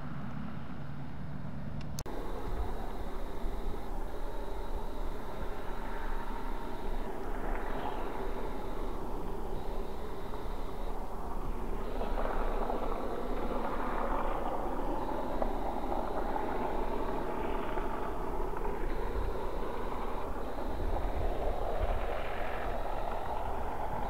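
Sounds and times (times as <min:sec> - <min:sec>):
vehicle engine driving: 0:01.6 - 0:24.0.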